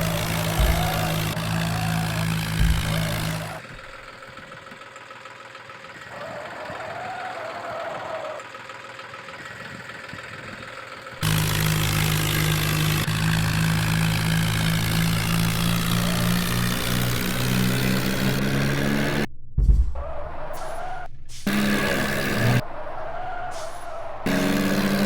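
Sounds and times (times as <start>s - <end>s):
tractor diesel engine drone: 0.0s - 19.3s, 20.0s - 25.0s.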